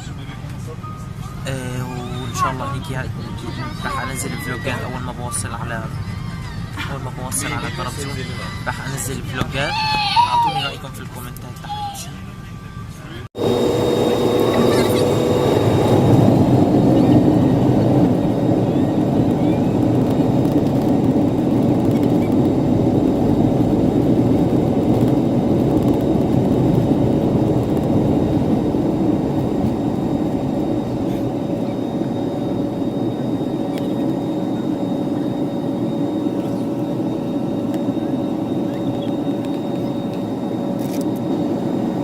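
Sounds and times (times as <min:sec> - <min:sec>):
jet engines heard from cabin: 0:00.0 - 0:42.0.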